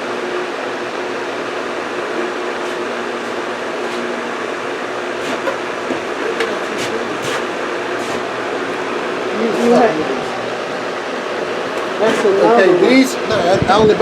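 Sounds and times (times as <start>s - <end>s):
machinery whirring: 1.2s - 13.0s.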